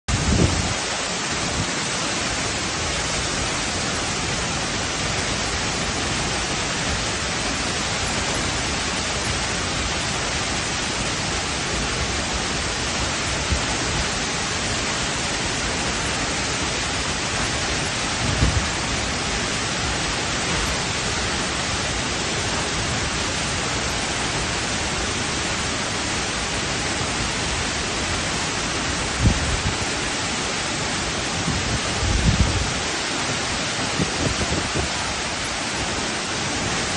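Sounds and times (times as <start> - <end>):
waterfall rushing over rock: 0.1 - 36.9.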